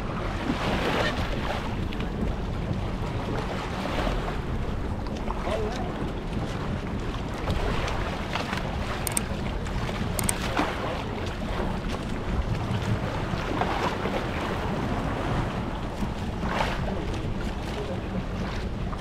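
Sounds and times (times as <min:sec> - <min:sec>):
boat motor rumbling: 0:00.0 - 0:19.0
water splashing against hull: 0:00.0 - 0:19.0
wind buffeting microphone: 0:00.0 - 0:19.0.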